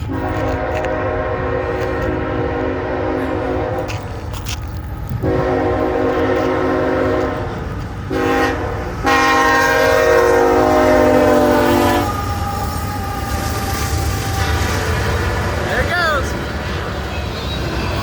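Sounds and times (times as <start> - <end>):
locomotive air horn blasts: 0.0 - 4.2, 5.2 - 15.6
train rumbling past: 0.0 - 18.0.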